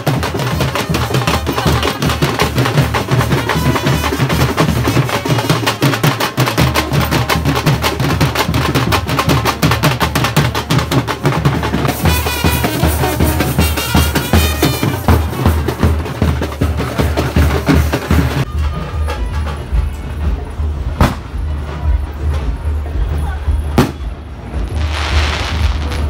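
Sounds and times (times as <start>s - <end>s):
fast dhol drumming: 0.0s - 26.0s.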